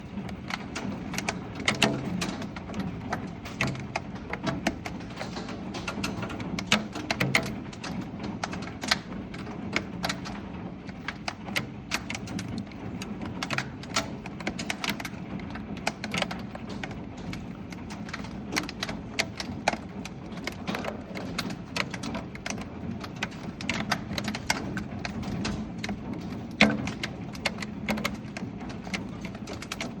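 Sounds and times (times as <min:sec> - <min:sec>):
hailstones knocking on surfaces: 0:00.2 - 0:30.0.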